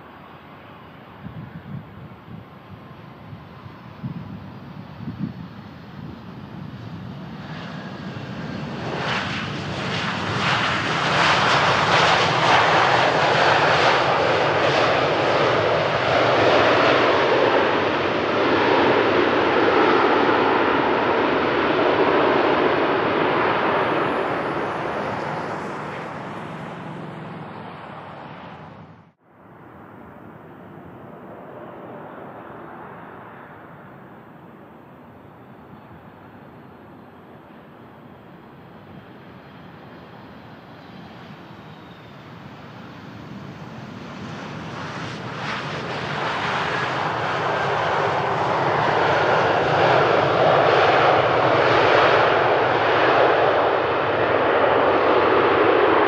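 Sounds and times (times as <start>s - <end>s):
airliner on approach: 0.0s - 56.0s
jet engines roaring: 0.0s - 56.0s.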